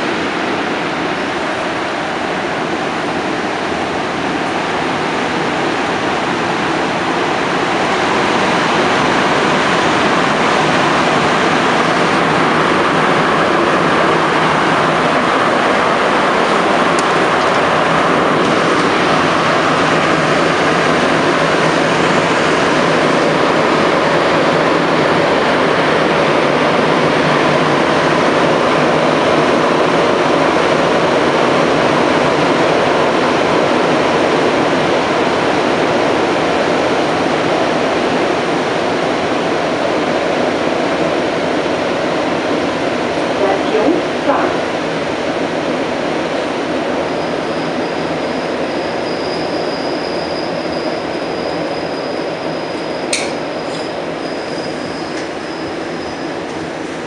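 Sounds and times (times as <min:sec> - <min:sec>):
metro train rolling in tunnel: 0:00.0 - 0:57.0.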